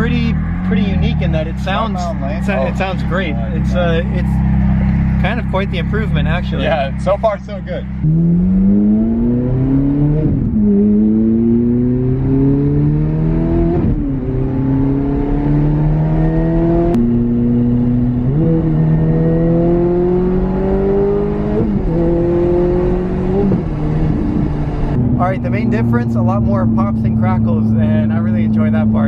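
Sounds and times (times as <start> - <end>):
sports car engine revving: 0.0 - 29.0.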